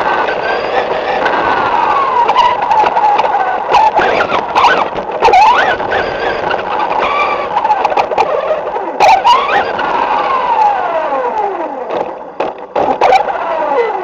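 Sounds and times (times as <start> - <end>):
chassis clicks and knocks: 0.0 - 13.4
rc car motor running: 0.0 - 14.0
tyre and road noise: 0.0 - 14.0.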